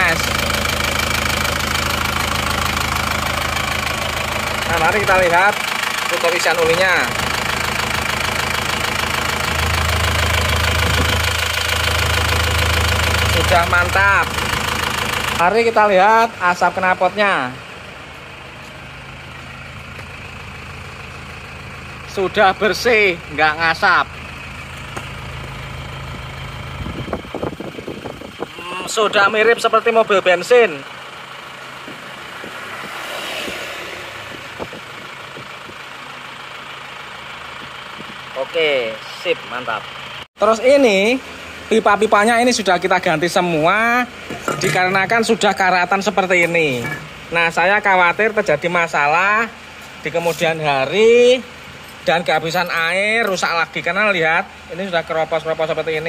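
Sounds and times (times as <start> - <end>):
diesel engine idling with clatter: 0.0 - 56.0.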